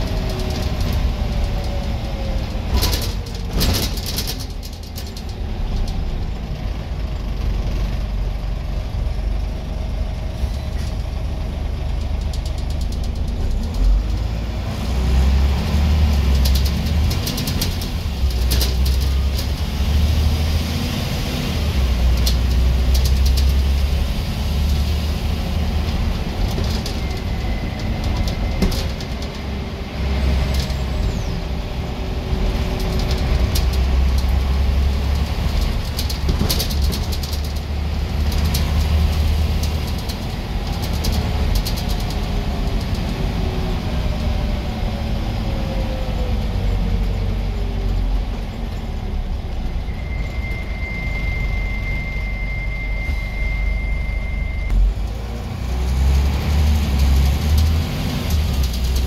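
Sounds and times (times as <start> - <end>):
bus body rattling: 0.0 - 59.0
bus diesel engine droning: 0.0 - 59.0
engine whine: 0.0 - 59.0.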